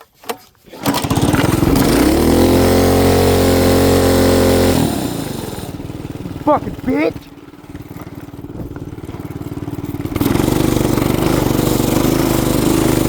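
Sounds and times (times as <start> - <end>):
small engine revving: 0.8 - 13.0.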